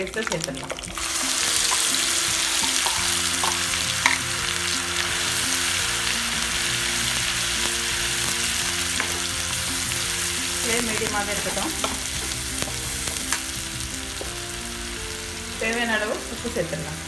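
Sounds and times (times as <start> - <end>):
onion paste sizzling in oil: 0.0 - 17.0.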